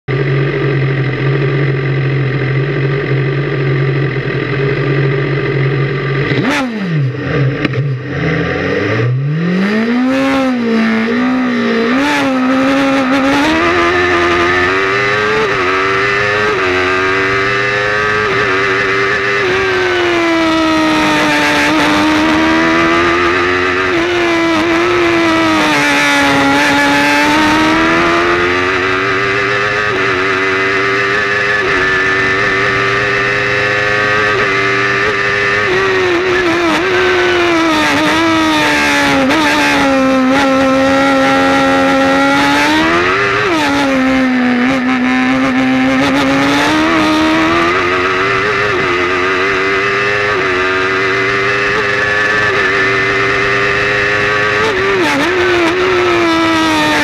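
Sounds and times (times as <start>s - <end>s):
race car engine revving: 0.1s - 57.0s.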